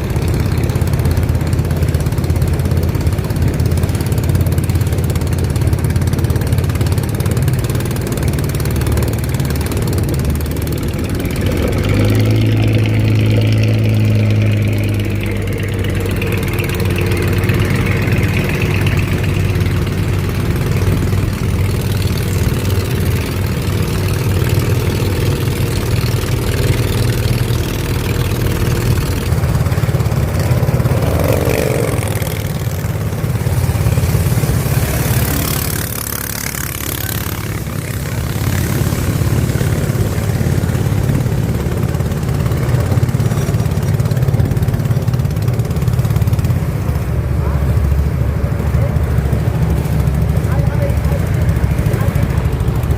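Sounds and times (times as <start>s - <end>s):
boat engine droning: 0.0s - 52.9s.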